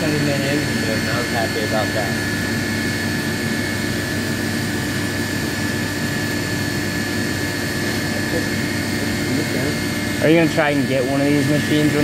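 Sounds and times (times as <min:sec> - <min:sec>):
milling machine whirring: 0:00.0 - 0:12.0.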